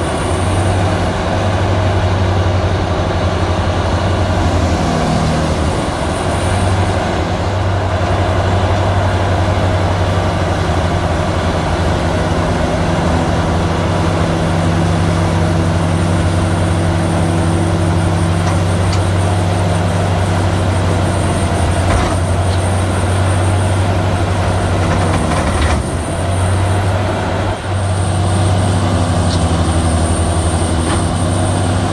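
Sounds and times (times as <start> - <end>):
shredder engine and rotor drone: 0.0 - 31.9.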